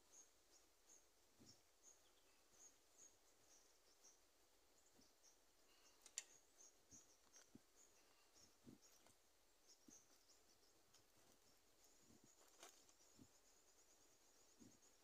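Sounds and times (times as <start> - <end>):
faint high chirps: 0.0 - 15.0.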